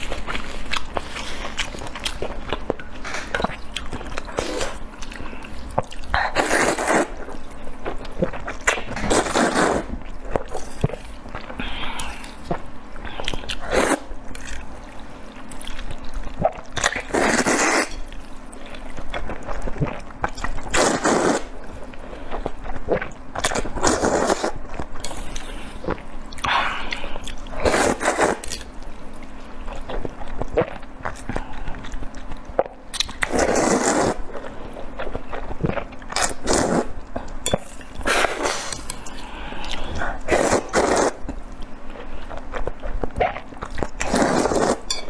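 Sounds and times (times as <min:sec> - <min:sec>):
chewing and mouth sounds: 0:00.0 - 0:45.0.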